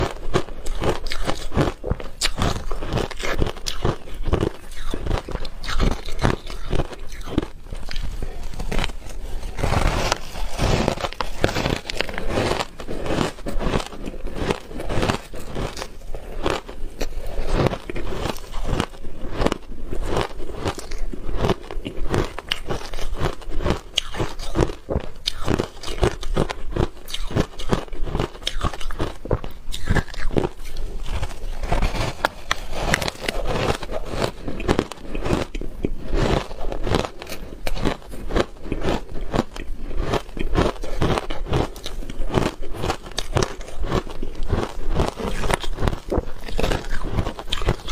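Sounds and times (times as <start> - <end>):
person crunching ice: 0.0 - 47.9.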